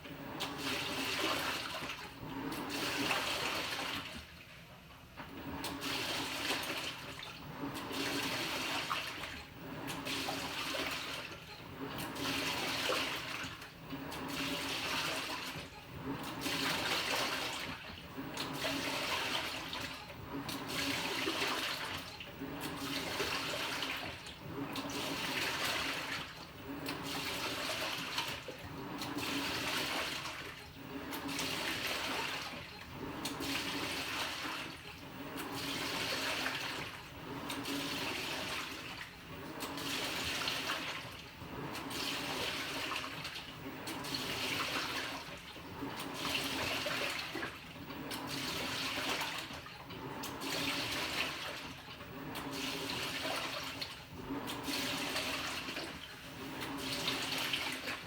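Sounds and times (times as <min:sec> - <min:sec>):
washing machine low hum: 0:00.0 - 0:58.0
washing machine water sloshing: 0:00.0 - 0:58.0.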